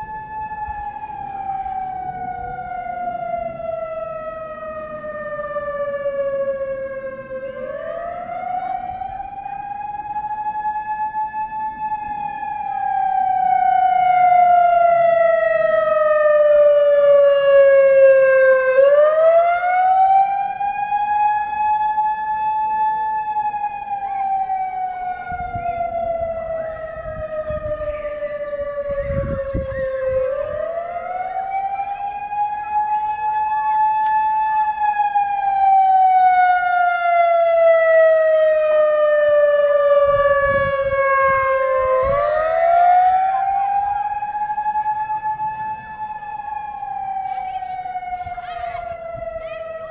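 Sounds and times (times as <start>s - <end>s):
warning siren wailing: 0.0s - 49.9s.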